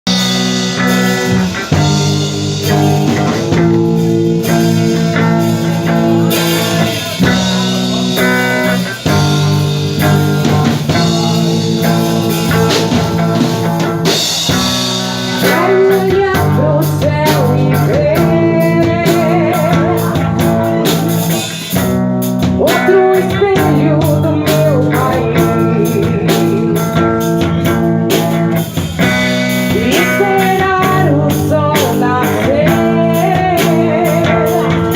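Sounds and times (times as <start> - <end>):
drum kit: 0.0 - 34.9
electric guitar chords: 0.0 - 34.9.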